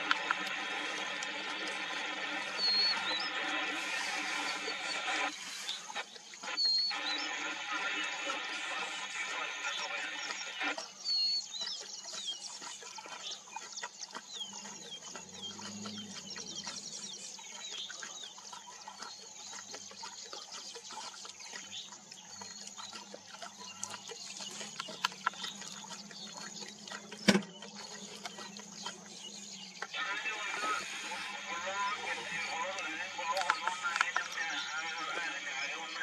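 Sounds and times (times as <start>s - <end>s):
birds chirping: 0.0s - 36.0s
lion lapping water: 0.0s - 36.0s.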